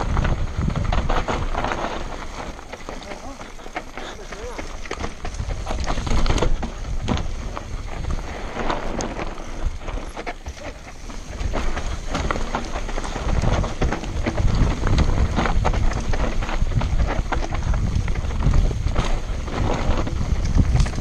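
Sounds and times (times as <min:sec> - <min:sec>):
bike rattling and knocking: 0:00.0 - 0:21.0
tyres crunching over stones: 0:00.0 - 0:21.0
wind buffeting microphone: 0:00.0 - 0:21.0.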